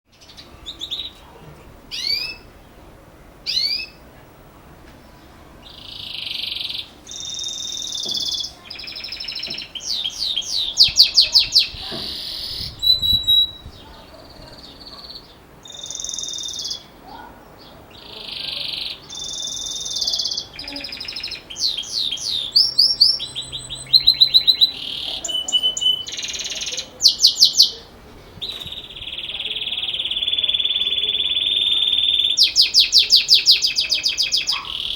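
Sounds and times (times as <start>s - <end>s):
canary singing trills: 0.1s - 4.1s, 5.0s - 34.9s.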